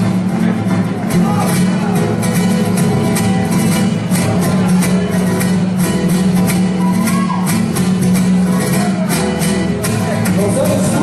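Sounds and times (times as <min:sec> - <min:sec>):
mariachi band playing: 0:00.0 - 0:11.0.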